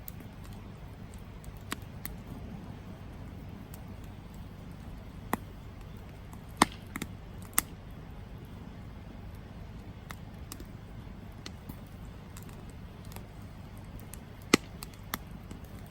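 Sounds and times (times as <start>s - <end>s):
campfire crackling and popping: 0.0s - 15.9s
steady low rumble: 0.0s - 15.9s.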